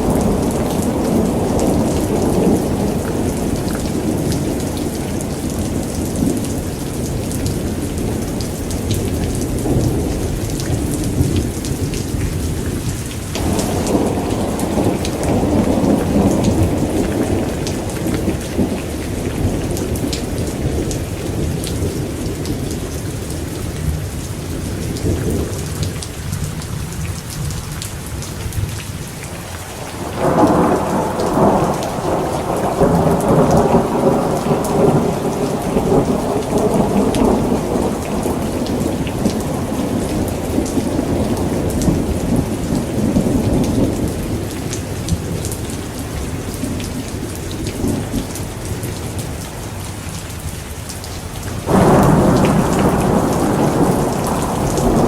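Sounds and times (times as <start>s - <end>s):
rolling thunder: 0.0s - 24.0s, 29.7s - 49.4s, 51.6s - 55.0s
heavy rain: 0.0s - 55.0s.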